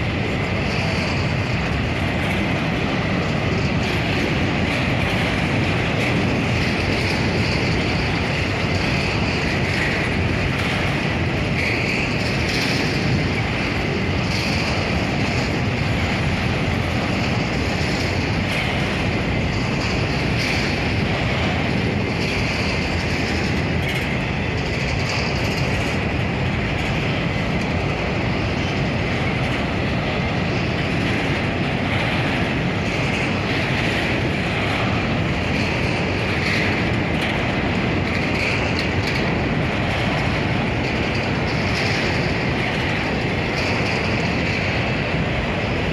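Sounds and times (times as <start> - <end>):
freight train wheels rumbling: 0.0 - 45.9.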